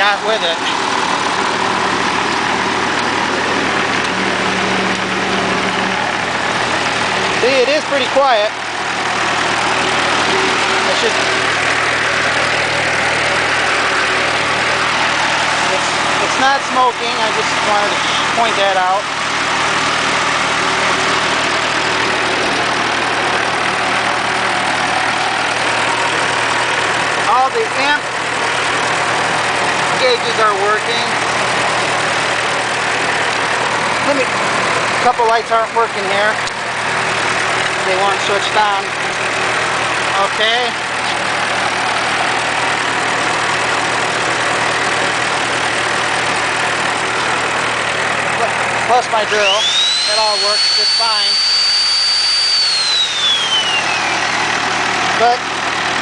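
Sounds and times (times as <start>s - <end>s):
generator engine running: 0.0s - 56.0s.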